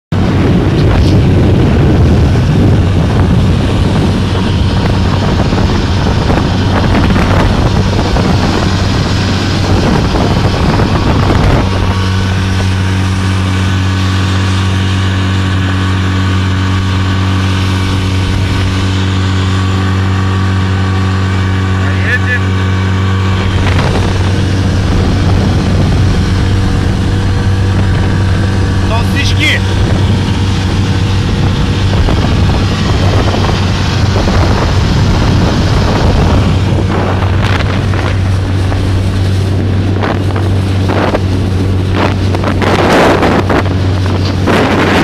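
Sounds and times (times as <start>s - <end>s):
outboard motor running: 0.1s - 45.0s
wind: 0.1s - 45.0s
water splashing: 0.3s - 45.0s.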